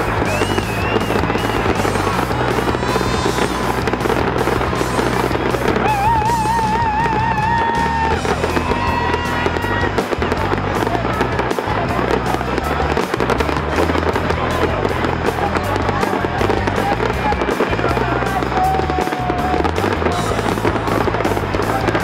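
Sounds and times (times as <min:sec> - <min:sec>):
fireworks crackling and popping: 0:00.0 - 0:22.0
music playing: 0:00.0 - 0:22.0.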